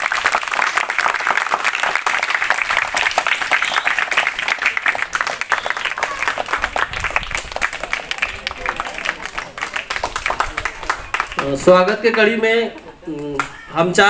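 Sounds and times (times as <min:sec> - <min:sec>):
crowd applauding: 0:00.0 - 0:13.6.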